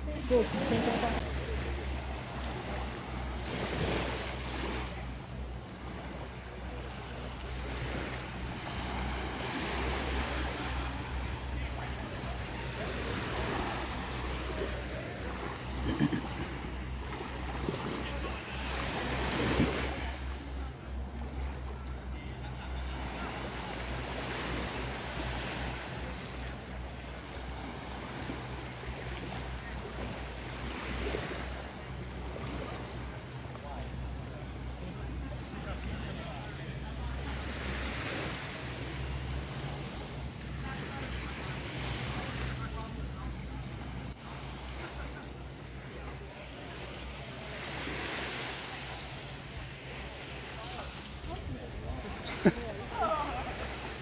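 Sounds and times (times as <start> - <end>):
boat engine hum: 0.0 - 54.0
waves washing on sand: 0.0 - 54.0
wind: 0.0 - 54.0.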